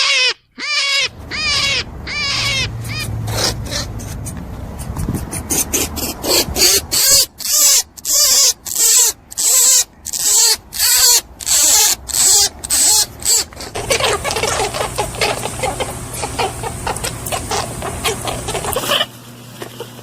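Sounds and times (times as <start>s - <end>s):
small animal squeaking: 0.0s - 4.3s, 5.1s - 19.1s.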